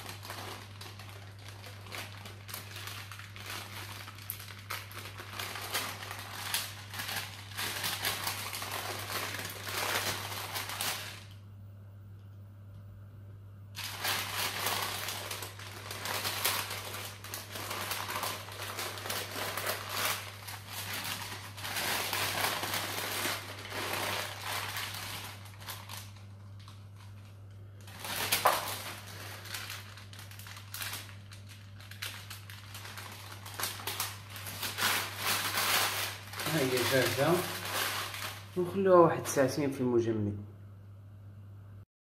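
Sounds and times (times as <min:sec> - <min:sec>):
baking parchment crinkling: 0:00.0 - 0:11.4, 0:13.8 - 0:39.5.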